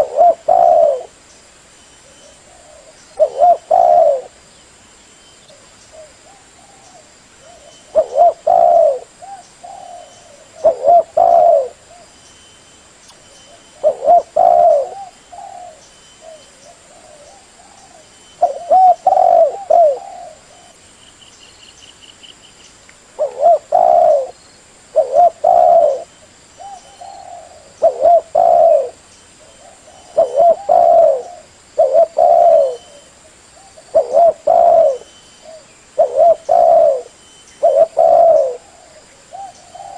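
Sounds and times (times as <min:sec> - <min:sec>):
dove cooing: 0:00.0 - 0:01.2, 0:02.0 - 0:04.4, 0:05.5 - 0:12.1, 0:13.5 - 0:20.8, 0:23.2 - 0:39.9.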